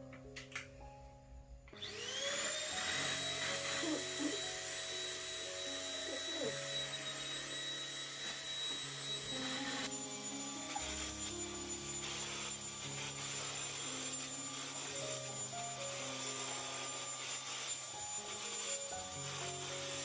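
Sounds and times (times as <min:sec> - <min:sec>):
vacuum motor whining: 0:01.7 - 0:20.0.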